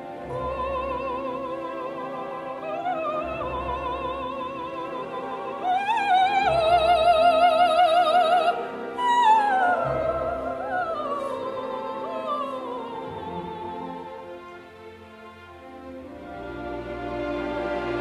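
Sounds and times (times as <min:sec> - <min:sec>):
operatic soprano singing: 0:00.0 - 0:18.0
orchestral accompaniment: 0:00.0 - 0:18.0.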